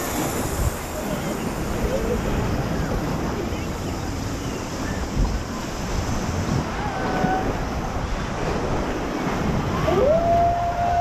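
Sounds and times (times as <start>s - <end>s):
whitewater rushing and splashing: 0.0s - 11.0s
wind on microphone: 0.0s - 11.0s.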